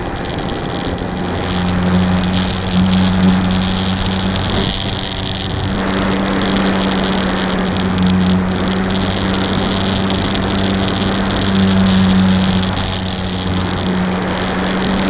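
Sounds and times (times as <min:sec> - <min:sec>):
electric motor and propeller drone: 0:00.0 - 0:15.0
wind hiss: 0:00.0 - 0:15.0.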